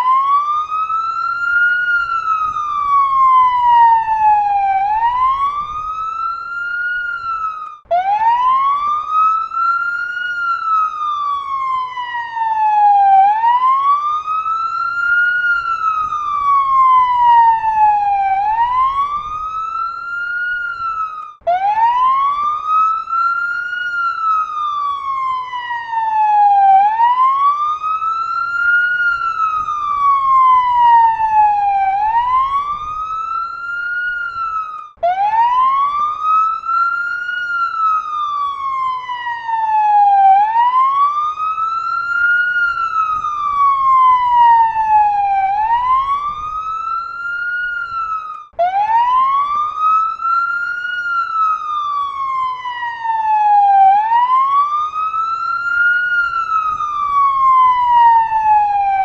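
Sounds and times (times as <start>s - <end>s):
fire siren wailing: 0.0s - 59.0s.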